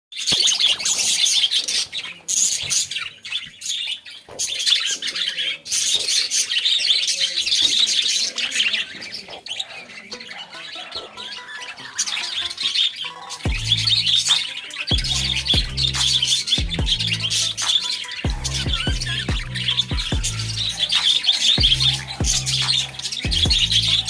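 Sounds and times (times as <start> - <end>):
budgerigar chirping and chattering: 0.2 - 24.0.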